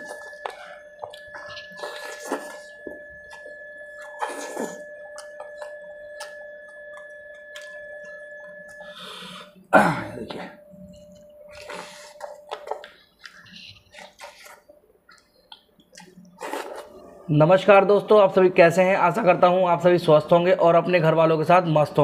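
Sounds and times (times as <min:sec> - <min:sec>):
steady high-pitched tone: 0:00.0 - 0:13.8, 0:16.2 - 0:22.0.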